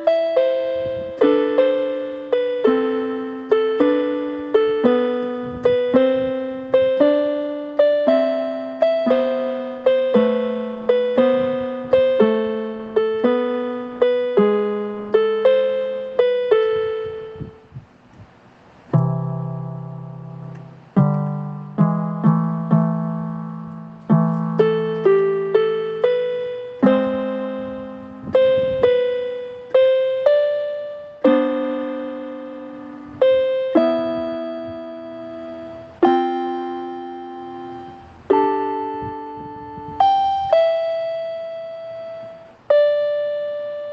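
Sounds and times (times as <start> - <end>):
solo piano music: 0.0 - 43.9.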